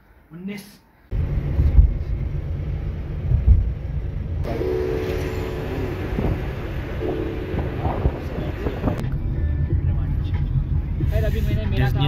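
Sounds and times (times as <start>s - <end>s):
car engine and road rumble: 1.1s - 12.0s
road and wind noise: 1.1s - 12.0s.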